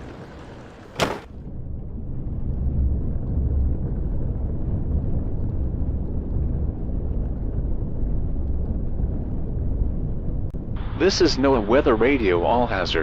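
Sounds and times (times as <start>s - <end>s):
thunder rumble: 0.0s - 13.0s.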